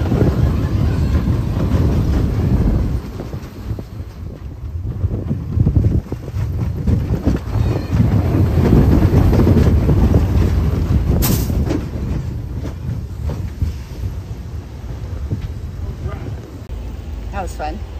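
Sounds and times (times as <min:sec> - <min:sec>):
roller coaster wheels rumbling: 0:00.0 - 0:17.9.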